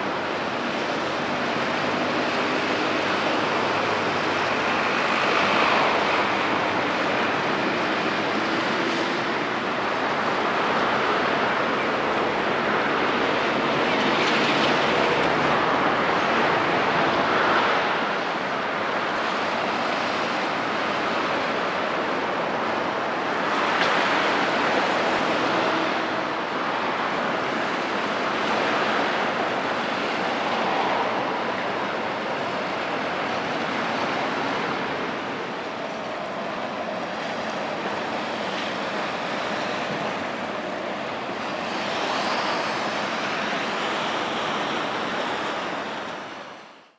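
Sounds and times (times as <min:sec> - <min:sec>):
sea water surging against shore: 0:00.0 - 0:46.9.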